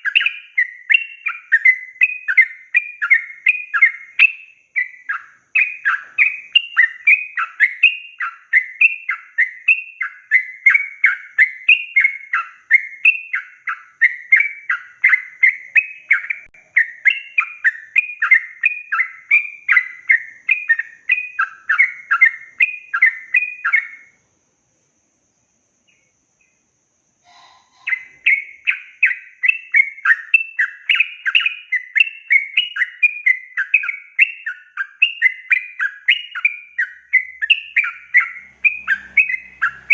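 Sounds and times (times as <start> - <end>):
bulbul singing bubbly chirps: 0.0 - 24.2, 25.3 - 39.9.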